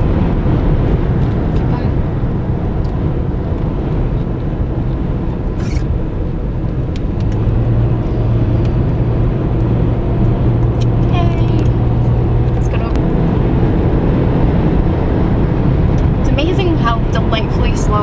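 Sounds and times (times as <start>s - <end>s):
car road noise: 0.0s - 18.0s
low hum: 0.0s - 18.0s.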